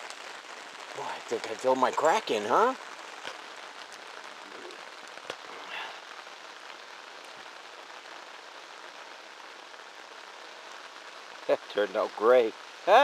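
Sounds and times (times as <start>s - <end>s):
heavy rain on asphalt: 0.0s - 13.0s.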